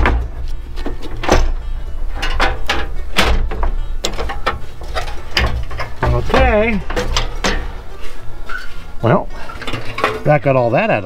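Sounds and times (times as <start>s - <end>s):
metal camp stove parts clanking: 0.0s - 11.0s.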